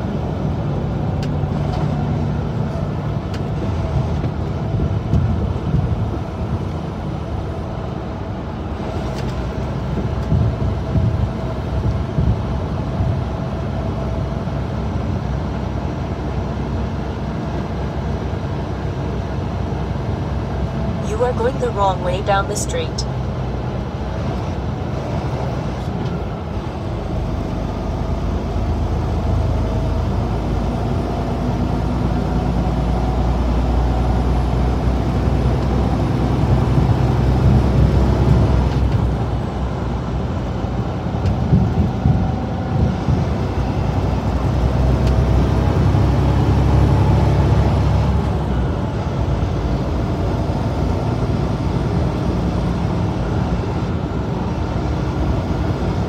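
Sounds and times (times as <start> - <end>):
tyre and road noise: 0.0 - 14.4, 17.8 - 56.0
truck engine drone: 0.0 - 56.0.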